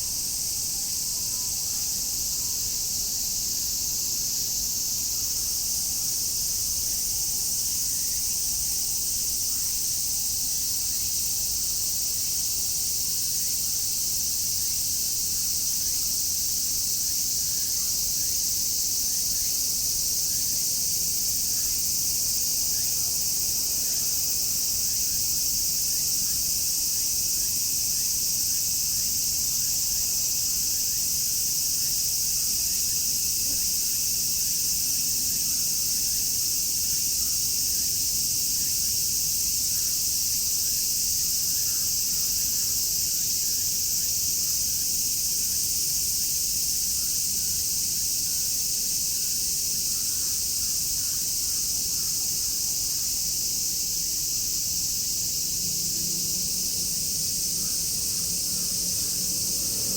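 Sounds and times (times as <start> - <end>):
cicadas shrilling: 0.0 - 59.9.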